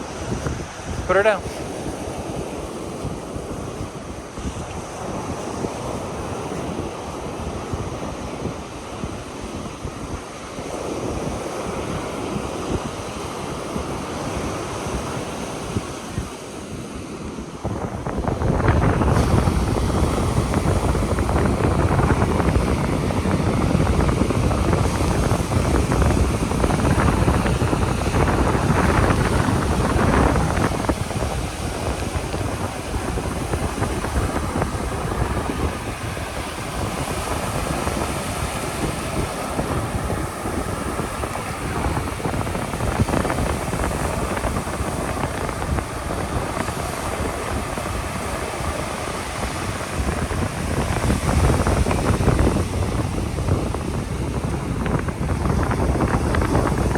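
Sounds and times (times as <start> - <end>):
surf washing: 0.0 - 56.9
wind buffeting microphone: 0.0 - 56.9.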